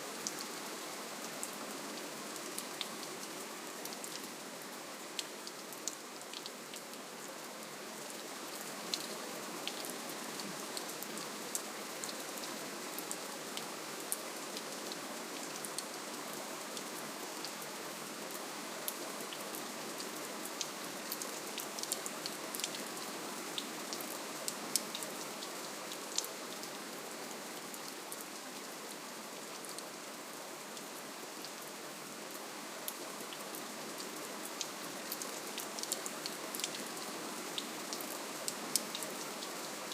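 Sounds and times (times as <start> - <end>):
gentle rainfall: 0.0 - 39.9.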